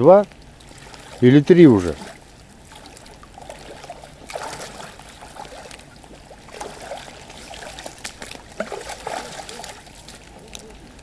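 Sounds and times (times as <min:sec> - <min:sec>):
boots wading through water: 0:00.0 - 0:11.0.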